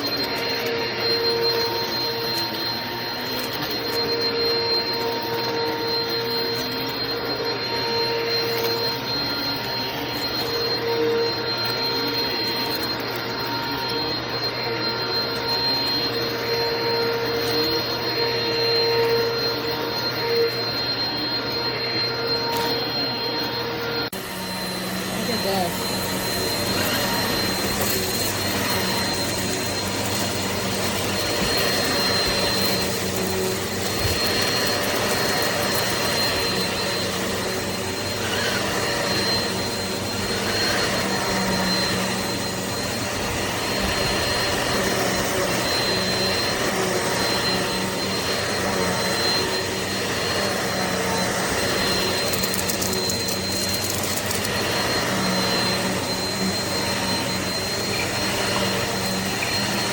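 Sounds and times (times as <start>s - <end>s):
upright vacuum cleaner running: 0.0s - 59.9s.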